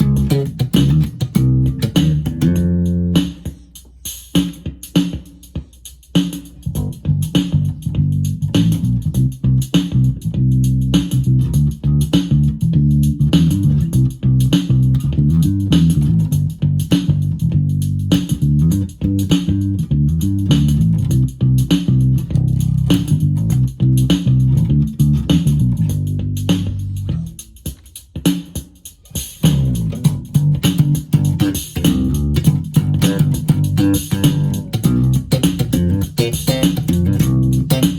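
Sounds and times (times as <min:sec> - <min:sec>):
electric bass guitar notes: 0:00.0 - 0:03.3, 0:06.6 - 0:27.4, 0:29.5 - 0:37.9
drum machine beat: 0:00.0 - 0:37.9.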